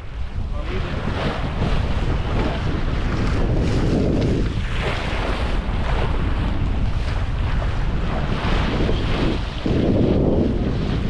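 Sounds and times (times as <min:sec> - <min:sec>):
waves washing past hull: 0:00.0 - 0:11.0
wind buffeting microphone: 0:00.0 - 0:11.0.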